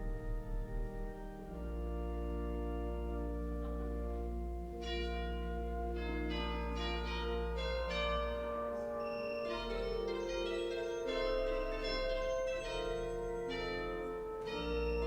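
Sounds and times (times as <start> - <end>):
chiming bell-like notes: 0.0 - 15.0
organ chords: 0.0 - 15.0.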